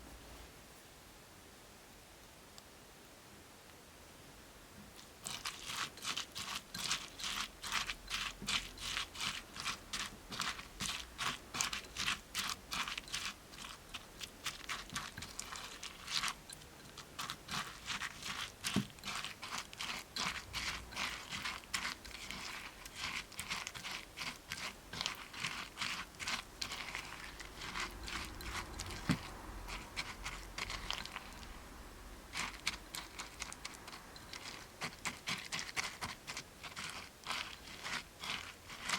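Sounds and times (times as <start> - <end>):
dry floral foam crunching: 5.0 - 38.9.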